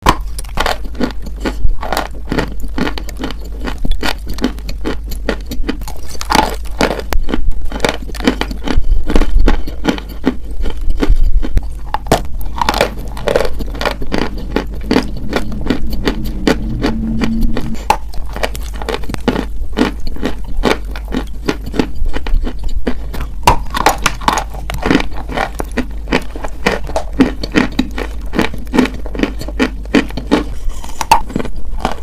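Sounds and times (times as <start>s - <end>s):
crunchy food being chewed: 0.0s - 32.0s.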